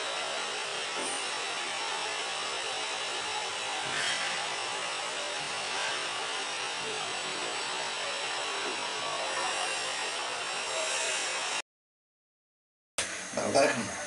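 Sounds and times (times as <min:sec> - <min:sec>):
steady hiss: 0:00.0 - 0:11.6, 0:13.0 - 0:14.0.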